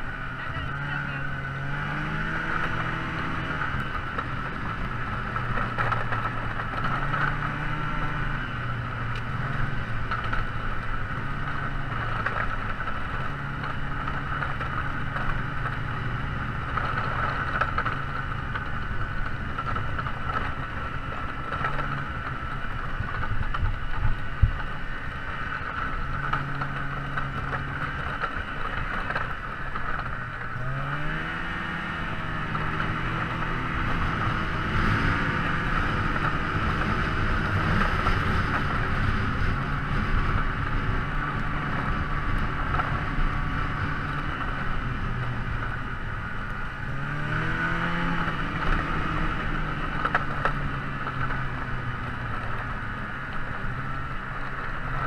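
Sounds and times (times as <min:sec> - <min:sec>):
engine running with whine: 0:00.0 - 0:55.0.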